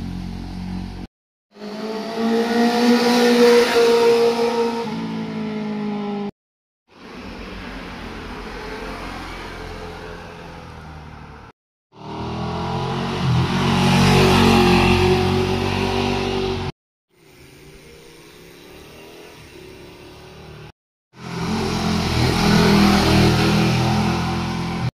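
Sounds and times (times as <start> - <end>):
motorcycle engines passing: 0.0 - 6.3, 7.0 - 16.7, 17.6 - 24.9.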